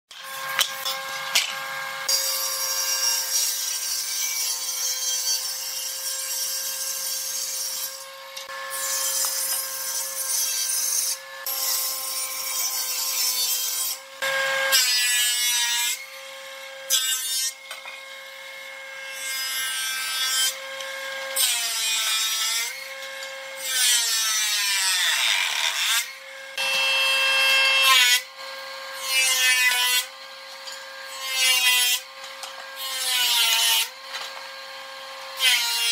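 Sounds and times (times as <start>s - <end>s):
planer cutting boards: 0.1s - 35.9s.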